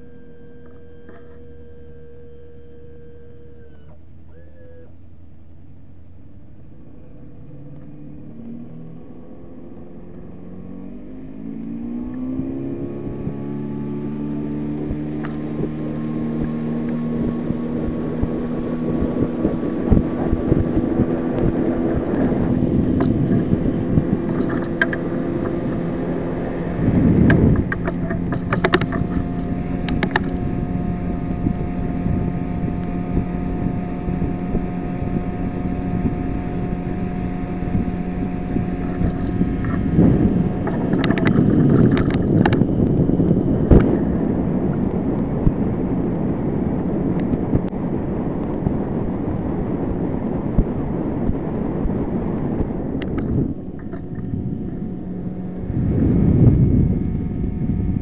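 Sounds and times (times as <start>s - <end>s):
outboard motor running: 0.0s - 58.0s
wind noise on microphone: 10.4s - 58.0s.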